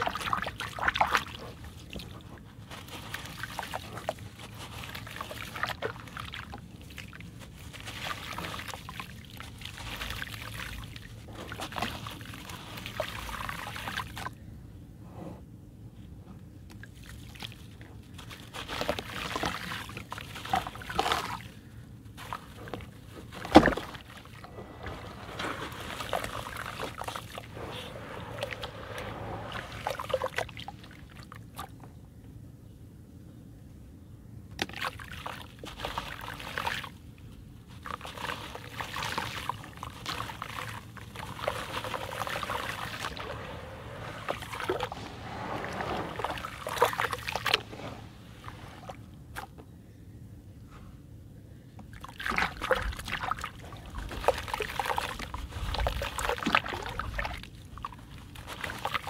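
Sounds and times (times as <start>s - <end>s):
hands sloshing muddy water: 0.0s - 14.4s, 16.8s - 31.9s, 34.6s - 49.6s, 51.9s - 59.0s.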